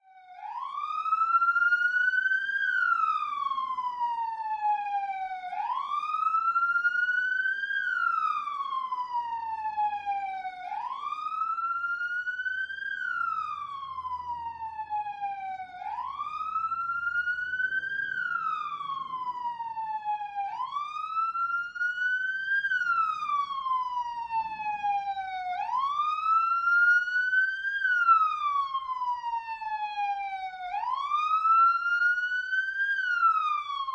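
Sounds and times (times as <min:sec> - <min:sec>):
police siren wailing: 0:00.0 - 0:33.9.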